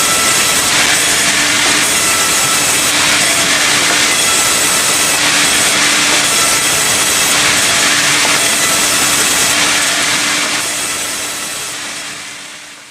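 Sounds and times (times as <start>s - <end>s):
saw cutting through timber: 0.0s - 12.1s.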